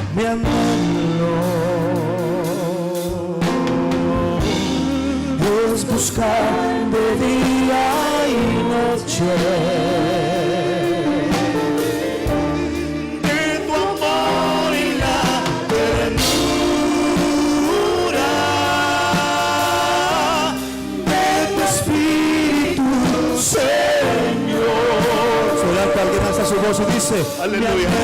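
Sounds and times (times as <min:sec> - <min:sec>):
person singing worship song: 0:00.0 - 0:28.0.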